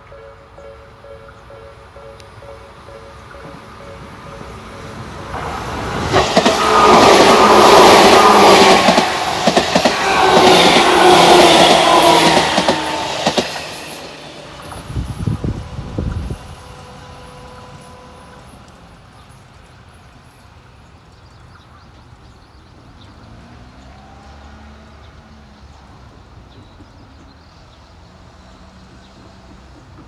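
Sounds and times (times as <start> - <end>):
train running sound: 0.0 - 24.6, 25.2 - 30.0.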